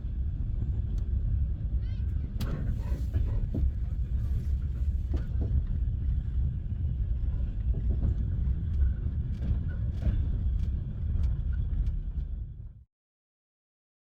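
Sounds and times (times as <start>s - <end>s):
train rumbling: 0.0s - 12.8s.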